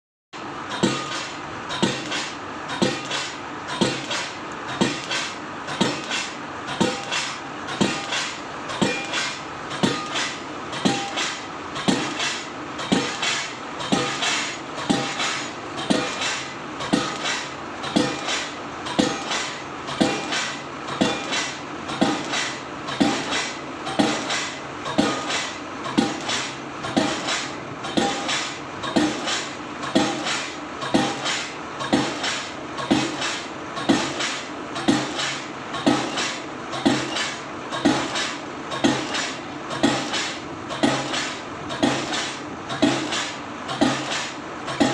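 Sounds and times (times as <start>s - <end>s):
steady machine hum: 0.4s - 44.9s
pile driver hammer clanking: 0.7s - 44.9s.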